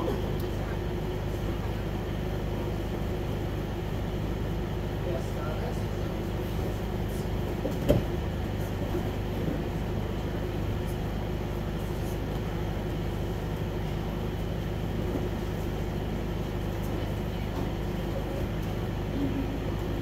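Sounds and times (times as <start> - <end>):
fans humming: 0.0 - 20.0.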